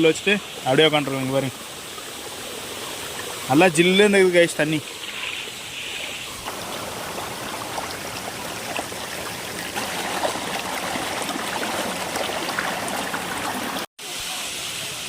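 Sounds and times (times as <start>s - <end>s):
small water splashes: 0.0s - 13.9s
stream water rushing: 0.0s - 15.0s.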